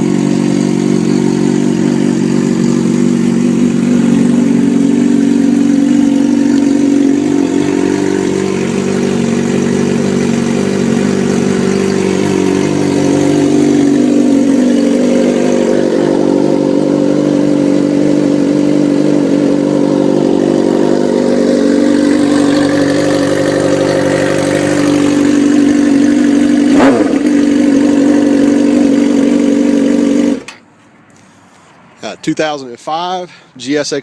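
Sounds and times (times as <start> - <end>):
motorcycle engine running: 0.0 - 30.6.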